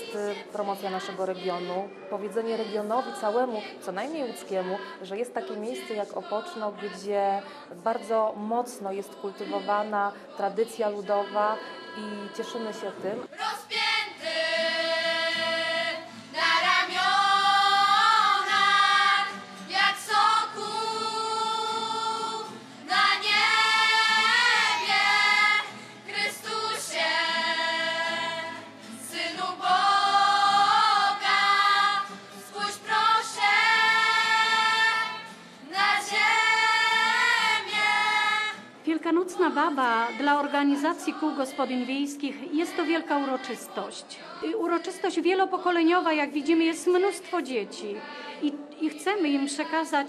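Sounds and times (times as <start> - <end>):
girls' choir singing: 0.0 - 50.0.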